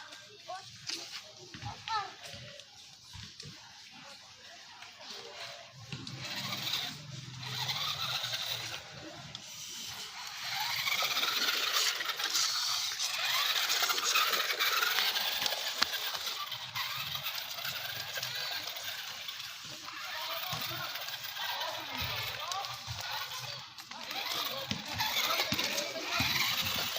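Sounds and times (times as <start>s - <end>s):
toy truck electric motor whining: 4.7s - 26.9s.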